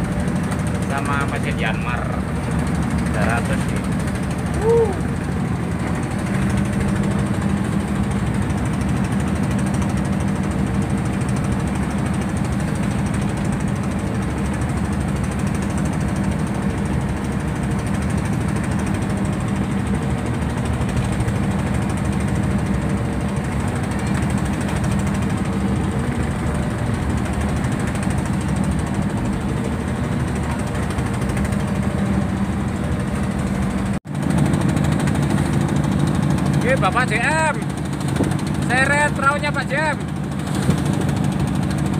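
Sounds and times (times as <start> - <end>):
boat diesel engine running: 0.0 - 41.9.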